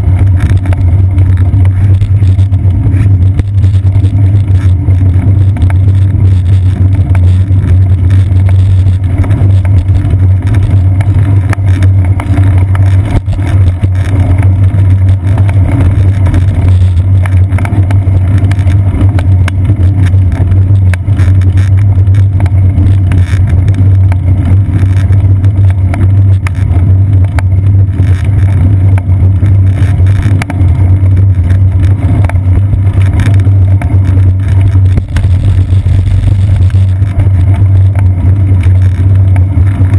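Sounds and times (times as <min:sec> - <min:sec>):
road vibration and wind rumble: 0:00.0 - 0:39.9.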